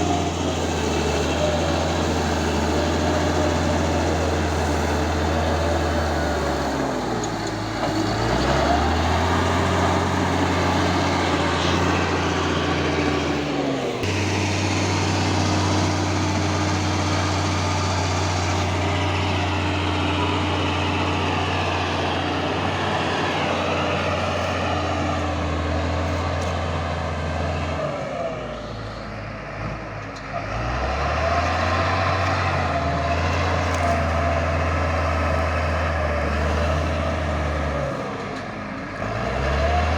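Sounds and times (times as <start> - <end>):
bulldozer diesel engine humming: 0.0 - 39.9.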